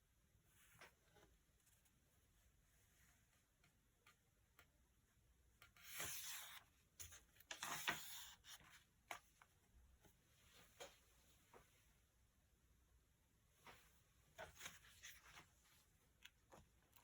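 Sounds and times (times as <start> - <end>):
rustling and scratching at a desk: 0.4 - 4.8, 5.4 - 12.0, 13.5 - 17.0.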